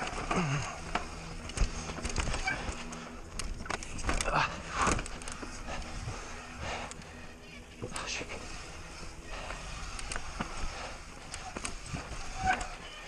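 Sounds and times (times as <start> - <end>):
mountain bike clattering over rough ground: 0.0 - 13.0.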